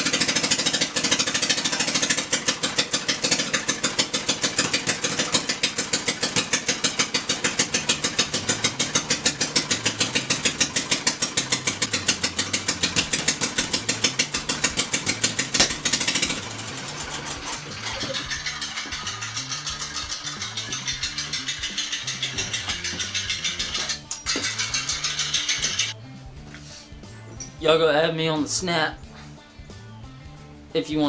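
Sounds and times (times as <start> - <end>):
riding mower engine running: 0.0 - 26.0.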